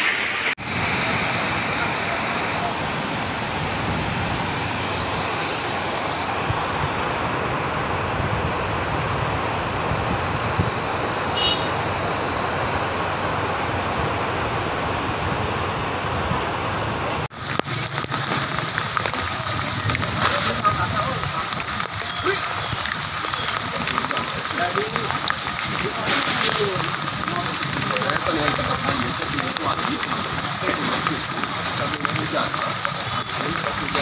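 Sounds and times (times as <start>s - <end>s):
heavy rain and hail: 0.0s - 34.0s.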